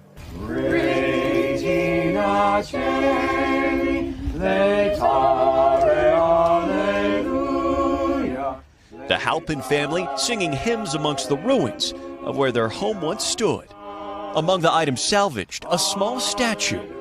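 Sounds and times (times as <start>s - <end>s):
group singing a hymn: 0.2s - 17.0s.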